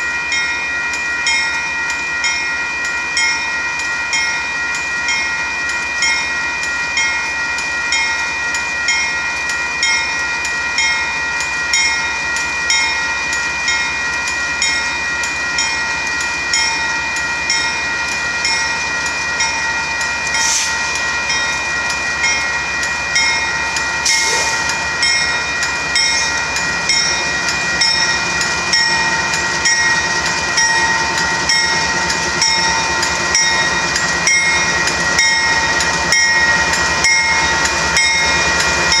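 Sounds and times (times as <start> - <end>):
freight train wheels clacking: 0.0 - 39.0
steady high-pitched tones: 0.0 - 39.0.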